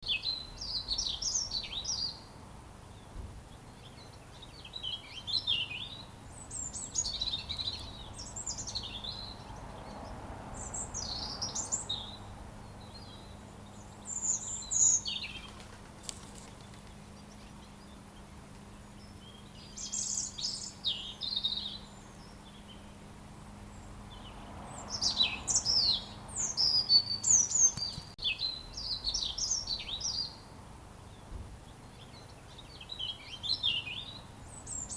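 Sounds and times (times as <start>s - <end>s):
robin singing: 0.0s - 34.9s.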